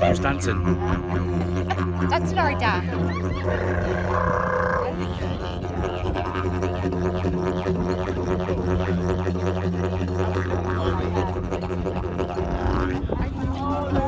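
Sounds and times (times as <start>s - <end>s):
didgeridoo drone: 0.0s - 14.0s.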